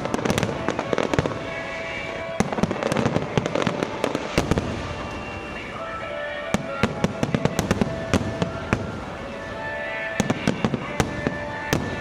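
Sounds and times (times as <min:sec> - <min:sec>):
fireworks bangs and pops: 0:00.0 - 0:09.0, 0:10.1 - 0:12.0
steady held tones: 0:00.0 - 0:12.0.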